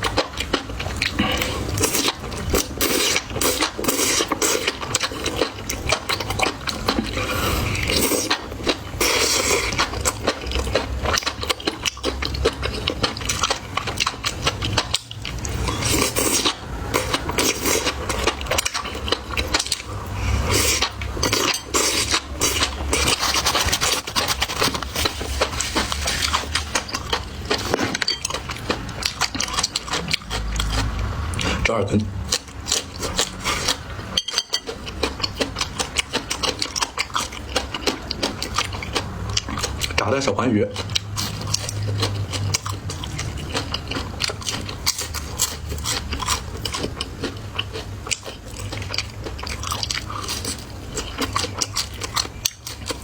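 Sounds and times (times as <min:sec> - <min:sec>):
chewing and crunching food: 0:00.0 - 0:53.0.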